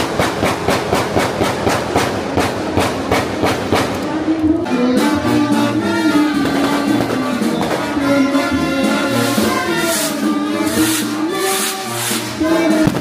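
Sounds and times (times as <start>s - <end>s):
brass band playing: 1.4s - 13.0s.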